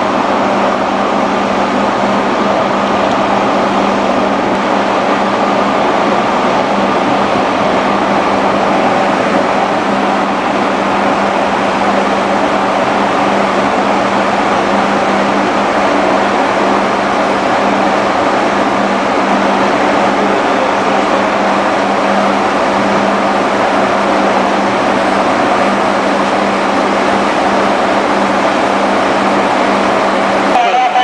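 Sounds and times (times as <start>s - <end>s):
loud even rush of noise: 0.0s - 31.0s
ship machinery hum: 0.0s - 31.0s.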